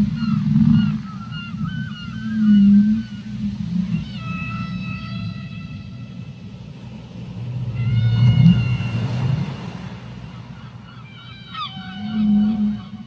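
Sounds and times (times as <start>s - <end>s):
steady low rumble: 0.0s - 11.5s
whale calls under water: 0.0s - 13.0s.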